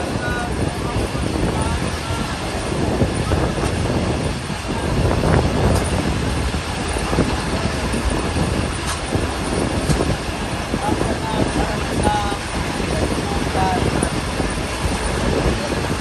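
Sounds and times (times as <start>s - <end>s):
passenger train rumbling on rails: 0.0s - 16.0s.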